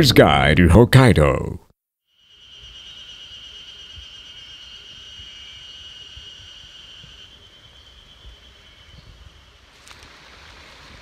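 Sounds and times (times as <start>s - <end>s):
high insect buzz: 2.1s - 11.0s.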